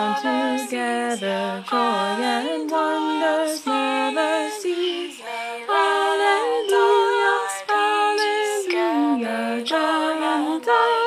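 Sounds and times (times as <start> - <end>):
a cappella singing in harmony: 0.0 - 11.0.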